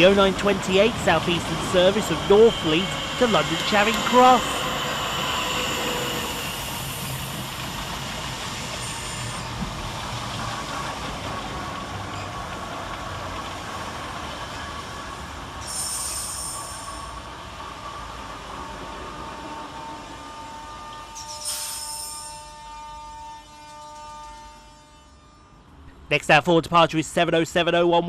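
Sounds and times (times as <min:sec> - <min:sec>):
electric train arriving: 0:00.0 - 0:26.6.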